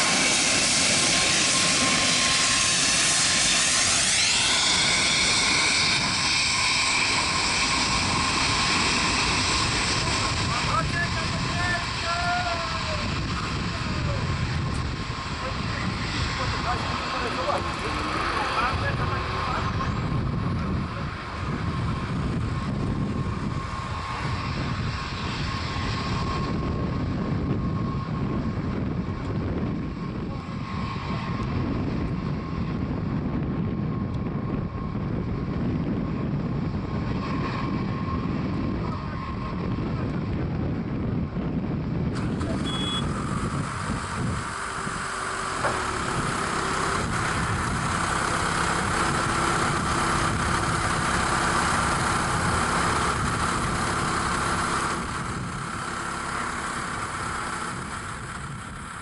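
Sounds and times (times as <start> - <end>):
jet engines running with whine: 0.0 - 59.0.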